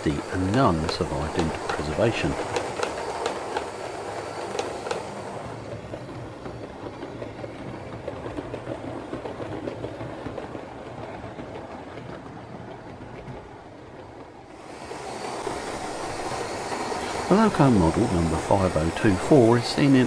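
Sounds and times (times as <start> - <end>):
model train running rumble: 0.0 - 20.0
wheels clicking over rail joints: 0.0 - 20.0.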